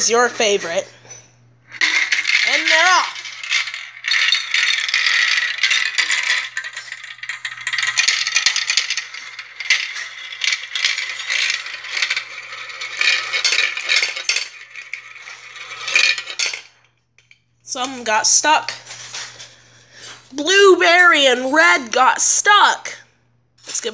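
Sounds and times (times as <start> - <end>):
glass marbles rattling down plastic run: 0.0 - 19.4.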